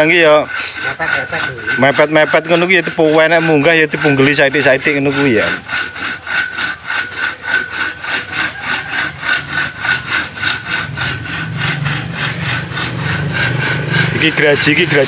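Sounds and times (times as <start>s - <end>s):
hand saw cutting timber: 0.0s - 15.0s.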